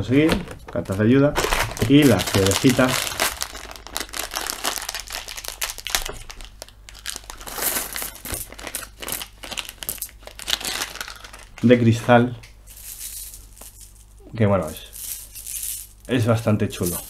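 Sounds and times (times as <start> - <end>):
packaging crinkling: 0.0 - 11.8, 12.7 - 14.2, 14.8 - 16.2.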